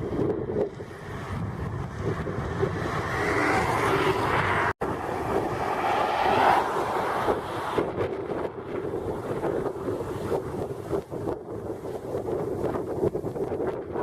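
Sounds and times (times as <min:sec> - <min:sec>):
storm wind rushing over microphone: 0:00.0 - 0:14.0.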